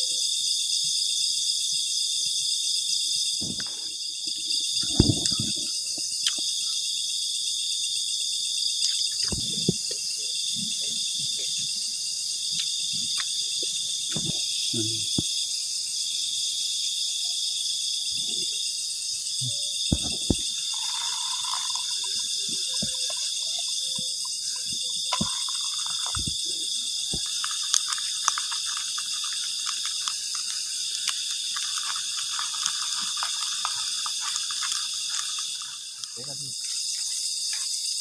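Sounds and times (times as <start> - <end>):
crickets and insects trilling: 0.0 - 38.0.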